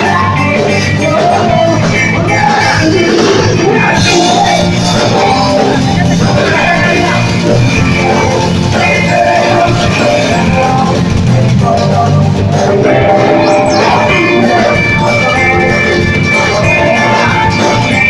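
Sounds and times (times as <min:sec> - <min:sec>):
loud rock music with drums: 0:00.0 - 0:18.0.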